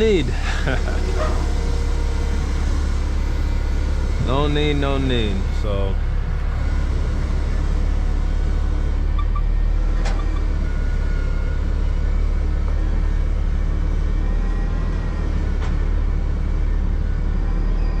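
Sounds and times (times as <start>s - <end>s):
diesel engine idling: 0.0s - 17.8s.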